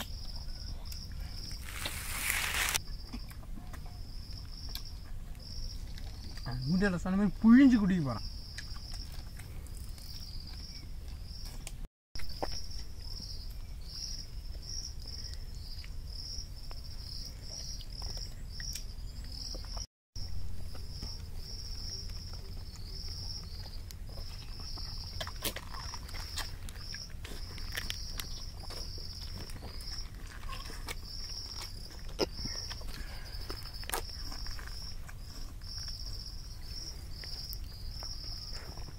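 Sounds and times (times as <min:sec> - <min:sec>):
insects chirping: 0:00.0 - 0:11.6, 0:12.2 - 0:38.9.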